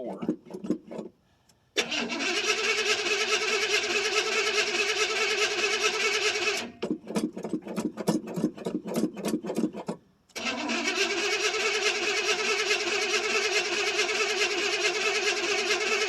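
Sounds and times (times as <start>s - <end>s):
engine starter cranking: 0.0s - 1.1s, 1.8s - 16.0s.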